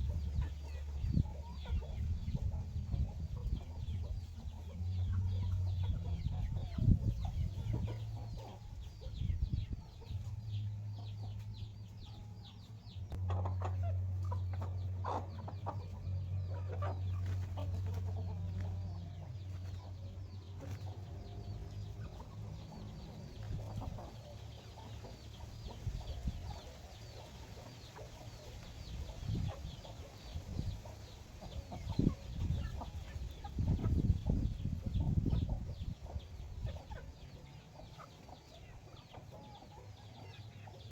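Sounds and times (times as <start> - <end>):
chickens clucking: 0.0 - 40.9
low steady hum: 0.0 - 40.9.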